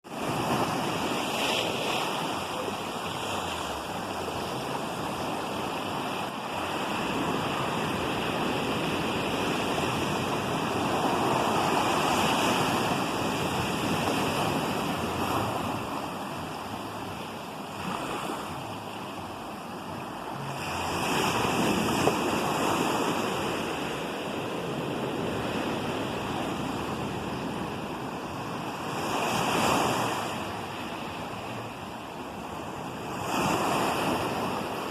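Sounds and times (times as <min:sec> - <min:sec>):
waves breaking on shore: 0:00.0 - 0:34.9.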